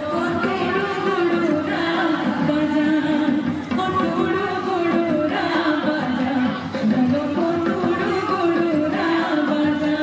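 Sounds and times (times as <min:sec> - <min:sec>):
folk music with singing: 0:00.0 - 0:10.0.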